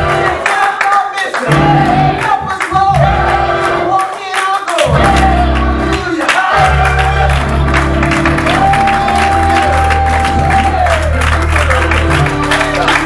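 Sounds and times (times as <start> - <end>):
live gospel singing with band: 0.0 - 13.0.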